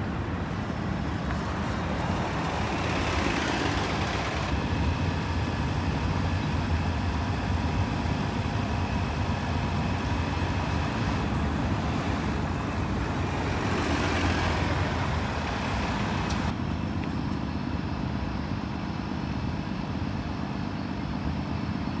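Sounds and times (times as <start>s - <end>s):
bus engine rumbling: 0.0s - 21.5s
traffic noise: 0.0s - 22.0s.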